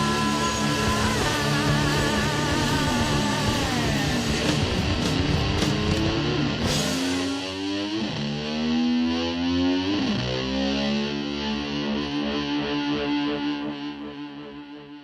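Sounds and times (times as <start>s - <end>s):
distorted electric guitar sliding: 0.0s - 15.0s.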